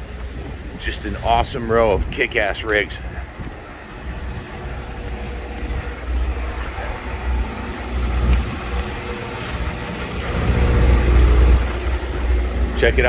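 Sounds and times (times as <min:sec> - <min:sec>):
outdoor background hum: 0:00.0 - 0:13.0
wind buffeting microphone: 0:00.0 - 0:13.0.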